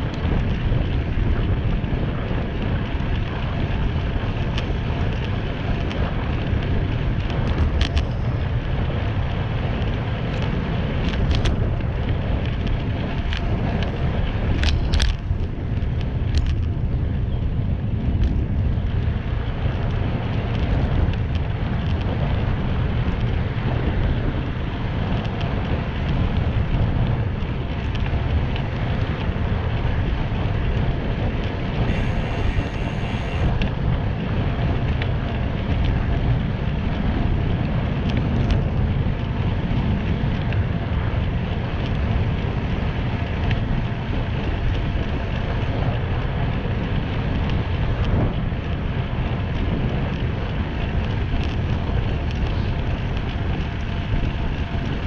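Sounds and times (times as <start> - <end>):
tyres rolling on asphalt: 0.0 - 55.0
wind noise on microphone: 0.0 - 55.0.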